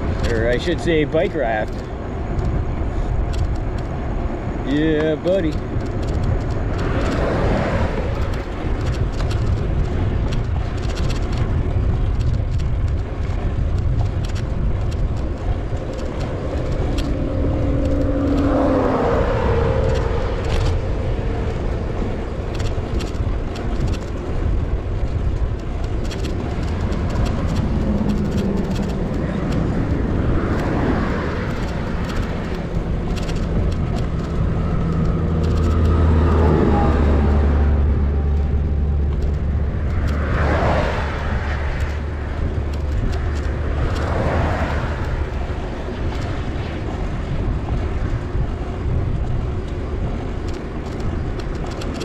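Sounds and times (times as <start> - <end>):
motor vehicle passing: 0.0 - 52.0
wind rushing over microphone: 0.0 - 52.0.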